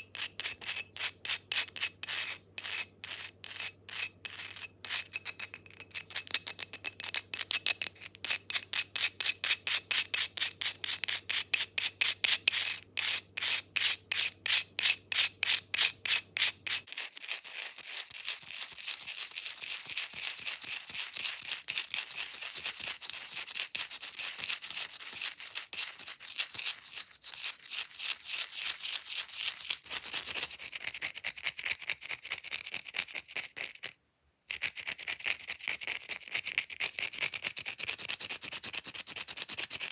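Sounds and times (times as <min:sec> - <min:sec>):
fingernails scratching an object: 0:00.0 - 0:14.0, 0:15.5 - 0:39.9.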